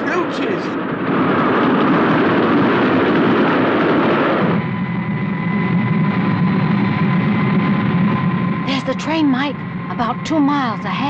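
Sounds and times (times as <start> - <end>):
engine drone with whistling tone: 0.0 - 11.0.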